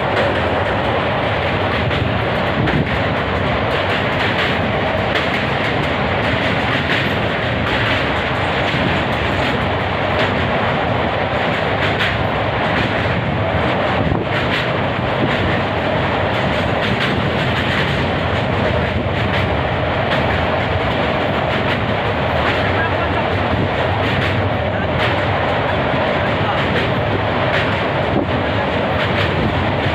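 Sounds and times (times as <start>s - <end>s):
train wheels rumbling and rattling: 0.0s - 29.9s.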